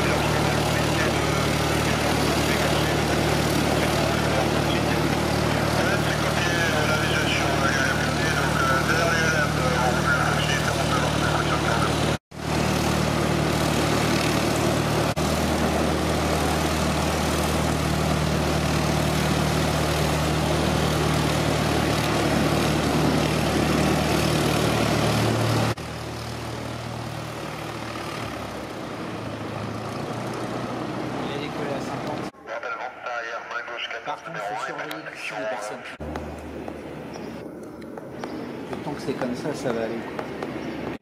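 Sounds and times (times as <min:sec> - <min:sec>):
propeller aircraft engine droning: 0:00.0 - 0:41.0.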